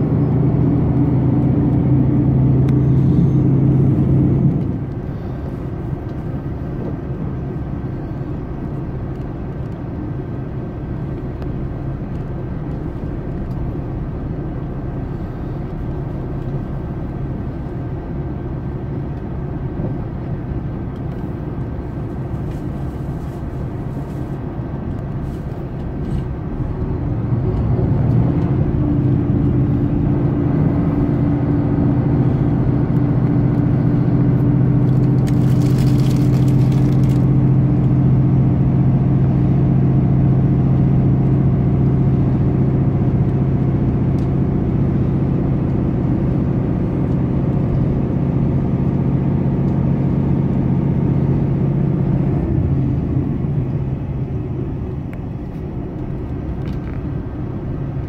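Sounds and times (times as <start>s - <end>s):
train rumbling on rails: 0.0s - 8.8s, 9.9s - 58.0s
low engine drone: 0.0s - 58.0s.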